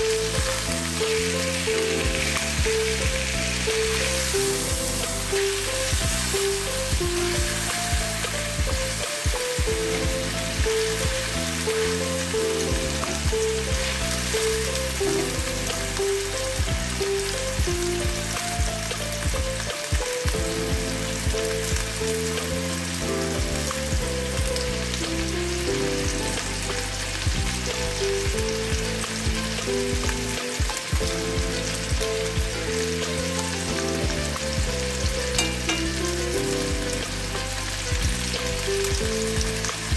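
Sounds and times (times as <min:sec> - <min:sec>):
meat sizzling in a frying pan: 0:00.0 - 0:39.9
soft background music: 0:00.0 - 0:39.9.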